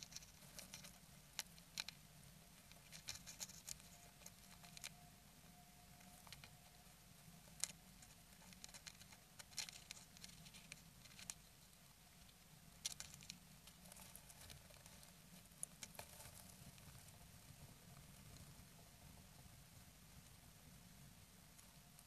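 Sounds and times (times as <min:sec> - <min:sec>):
faint steady low hum: 0:00.0 - 0:22.0.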